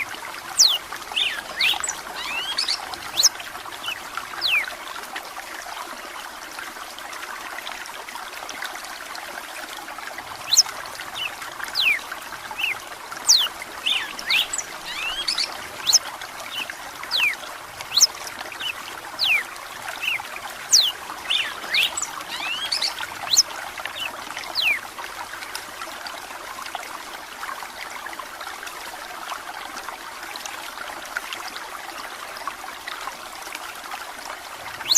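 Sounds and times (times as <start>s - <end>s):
trickle of running water: 0.0s - 34.9s.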